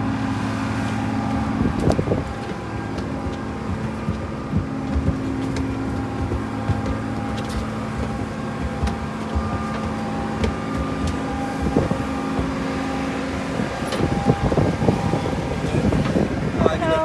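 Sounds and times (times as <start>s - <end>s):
engine drone inside vehicle: 0.0s - 17.0s
light clicks and knocks: 0.9s - 16.3s.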